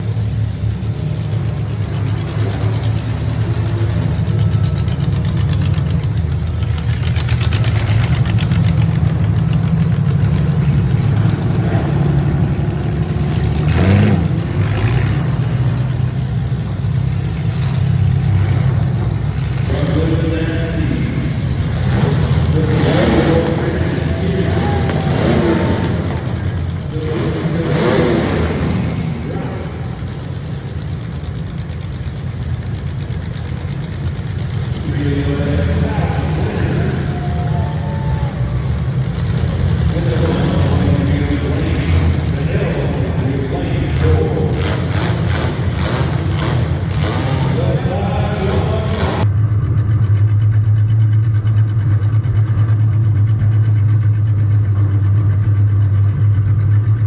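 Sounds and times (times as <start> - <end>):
car engines idling and revving: 0.0 - 57.0.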